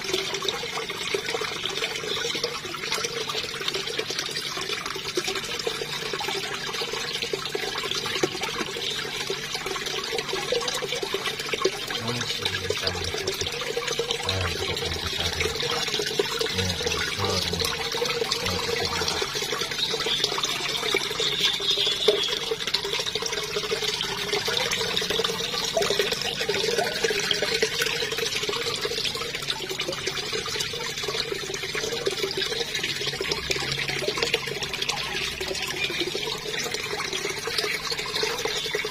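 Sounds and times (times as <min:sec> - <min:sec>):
water pouring into a pond: 0:00.0 - 0:38.9.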